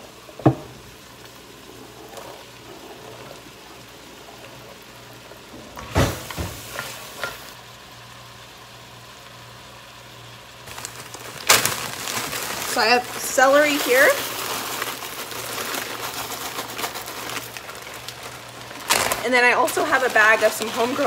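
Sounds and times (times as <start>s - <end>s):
vegetables sizzling in pot: 0.0s - 21.0s.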